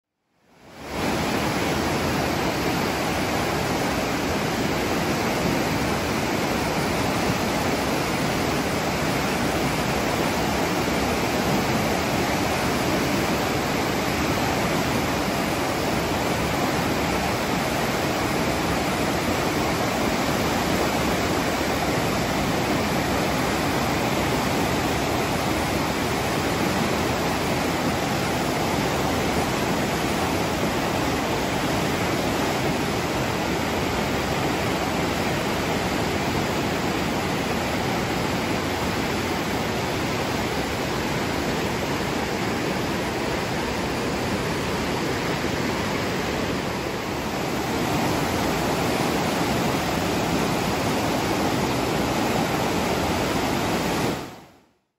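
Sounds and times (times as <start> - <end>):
river rapids roaring: 0.5 - 54.6.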